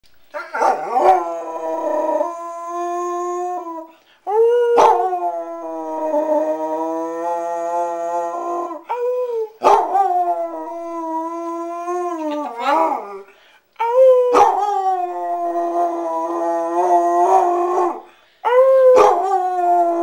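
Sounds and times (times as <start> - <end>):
dog howling: 0.4 - 13.2, 13.8 - 20.0.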